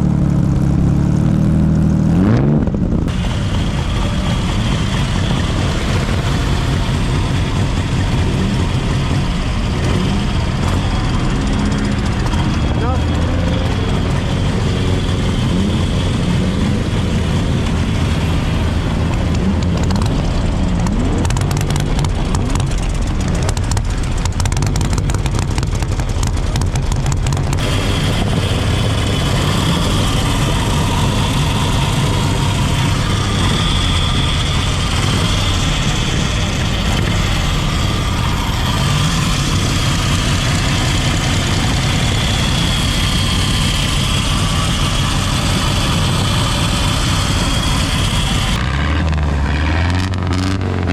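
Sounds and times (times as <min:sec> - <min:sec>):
car engines running and revving: 0:00.0 - 0:50.9.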